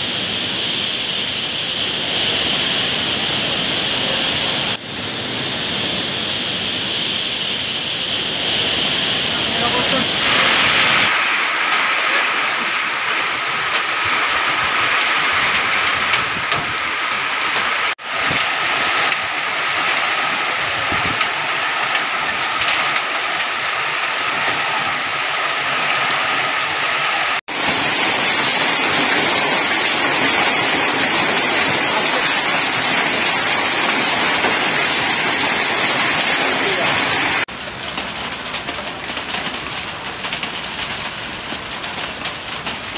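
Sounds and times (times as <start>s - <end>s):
heavy rain and hail: 0.0s - 42.9s.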